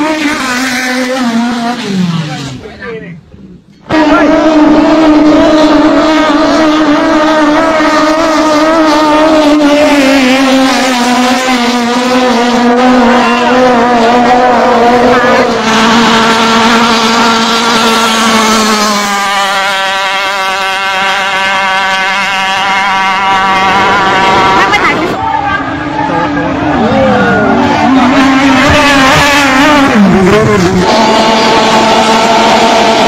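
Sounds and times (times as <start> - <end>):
racing boat engines running: 3.8 - 33.0.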